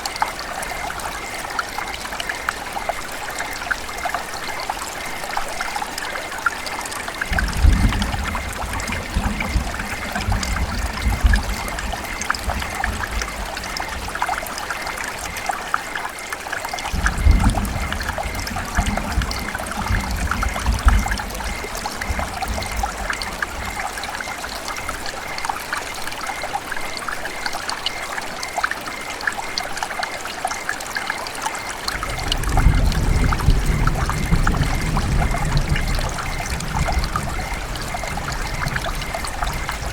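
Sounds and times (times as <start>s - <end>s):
river water running and trickling: 0.0s - 39.9s.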